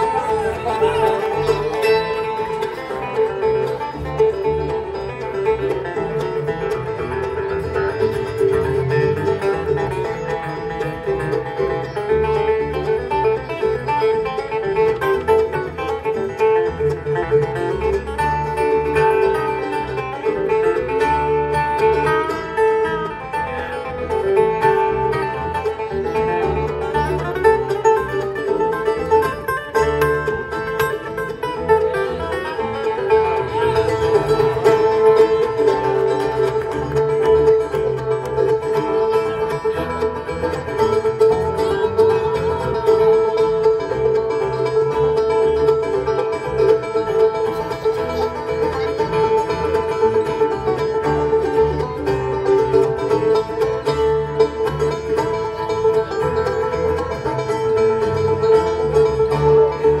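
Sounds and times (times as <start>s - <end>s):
banjo: 0.0s - 60.0s
bluegrass band playing: 0.0s - 60.0s.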